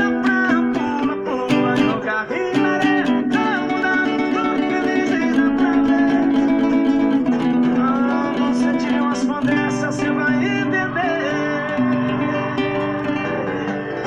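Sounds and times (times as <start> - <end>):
acoustic guitar with sliding notes: 0.0 - 14.0
recorded song: 0.0 - 14.0.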